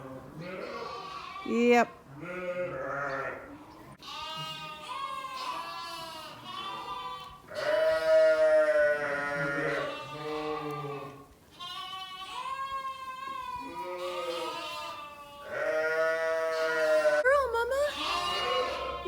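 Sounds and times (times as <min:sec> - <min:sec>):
sheep bleating: 0:00.4 - 0:19.0.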